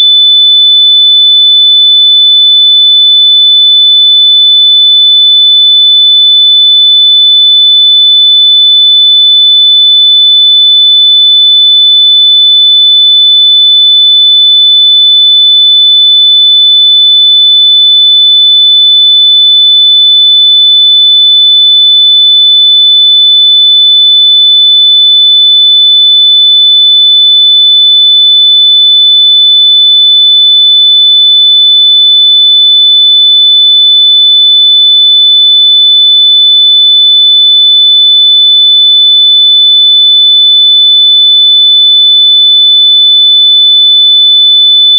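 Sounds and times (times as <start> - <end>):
high-pitched sine test tone: 0.0 - 44.9.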